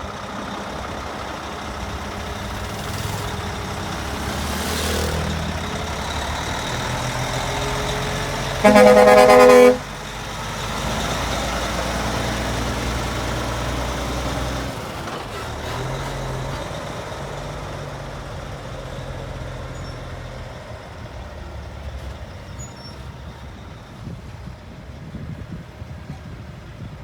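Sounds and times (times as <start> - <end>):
truck engine passing by: 0.0 - 26.9.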